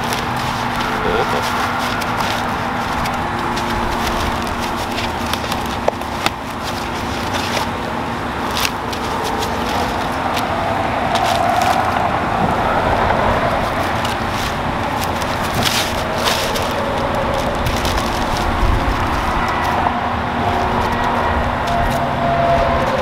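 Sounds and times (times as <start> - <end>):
plastic bags crinkling: 0.0 - 23.0
sharp crackles: 0.0 - 23.0
steady low hum: 0.0 - 23.0.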